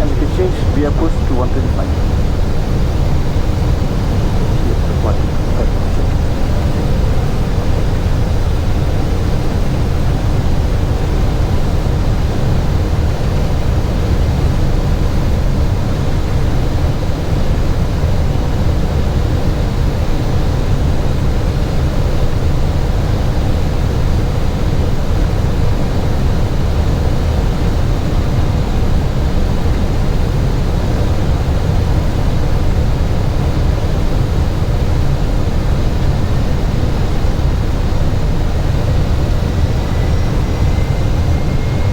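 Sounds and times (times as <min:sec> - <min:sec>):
aircraft engines and airflow rumble: 0:00.0 - 0:41.9.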